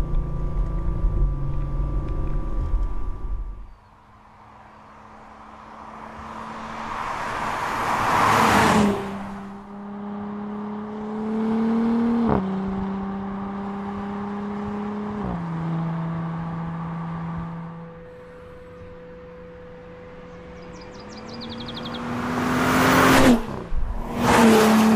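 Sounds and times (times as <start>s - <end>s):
engine accelerating with gear shifts: 0.0s - 3.8s, 5.6s - 19.1s, 20.1s - 24.9s
car passing: 1.5s - 24.9s.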